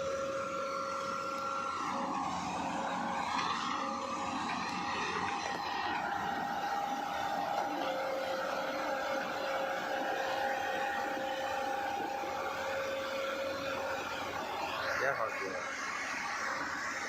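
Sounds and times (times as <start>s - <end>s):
heavy vehicle engine running: 0.0s - 17.0s
steady whine: 0.0s - 17.0s.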